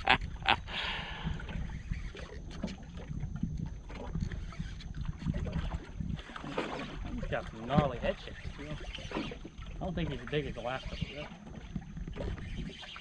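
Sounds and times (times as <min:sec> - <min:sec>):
wind rumble on microphone: 0:00.0 - 0:12.8
water lapping against boat hull: 0:00.0 - 0:13.0.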